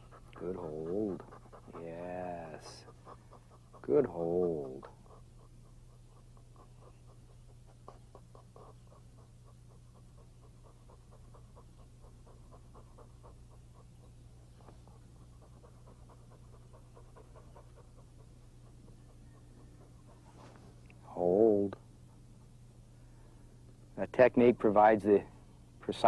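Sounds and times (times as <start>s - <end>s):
dog panting quickly: 0.0s - 22.8s
steady low hum: 0.0s - 26.0s.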